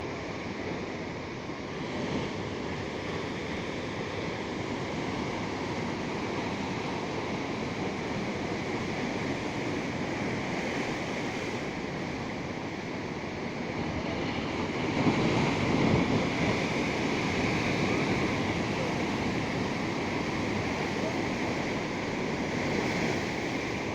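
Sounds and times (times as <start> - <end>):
ocean waves breaking on shore: 0.0 - 23.9
wind on microphone: 0.0 - 23.9.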